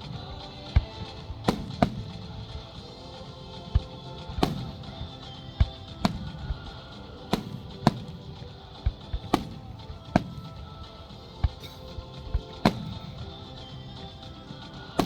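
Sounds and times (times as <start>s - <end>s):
fireworks bursting: 0.0s - 13.6s
music: 0.0s - 15.0s.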